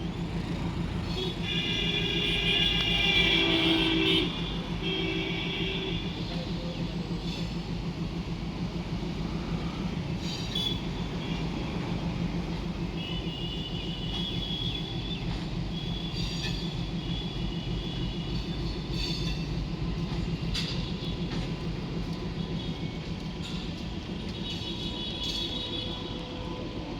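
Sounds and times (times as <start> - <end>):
train rumbling on rails: 0.0 - 26.9.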